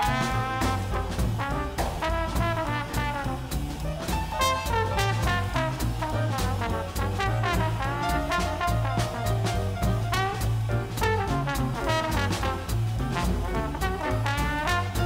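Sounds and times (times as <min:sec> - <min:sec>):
cymbals keeping a beat: 0:00.0 - 0:15.0
swing jazz band: 0:00.0 - 0:15.0
trombone playing lead: 0:00.0 - 0:15.0.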